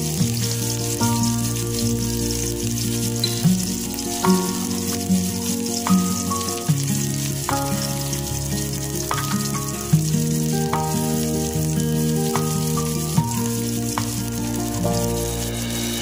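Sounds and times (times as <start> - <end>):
slow instrumental tune: 0.0 - 16.0
spices sizzling in hot oil: 0.0 - 16.0.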